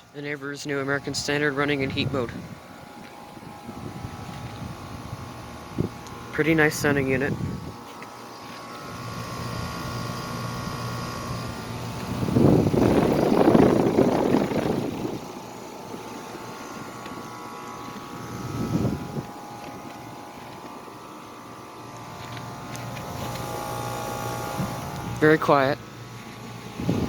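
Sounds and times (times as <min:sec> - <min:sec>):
heat pump humming: 0:00.0 - 0:27.0.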